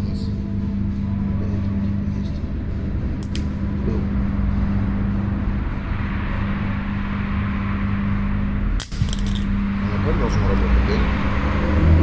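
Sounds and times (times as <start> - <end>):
low machine hum: 0.0 - 12.0
pitched drone: 0.0 - 12.0.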